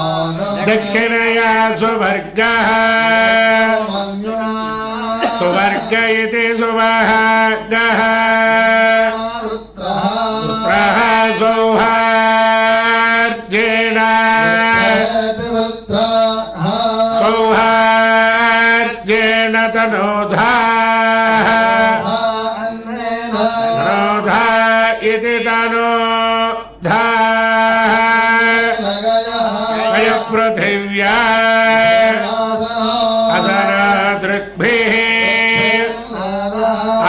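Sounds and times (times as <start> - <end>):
person chanting: 0.0 - 37.0.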